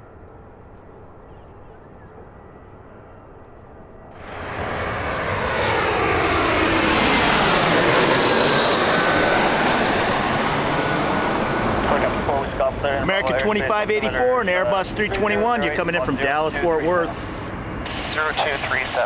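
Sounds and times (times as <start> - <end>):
jet engines passing with whine: 0.0 - 19.0.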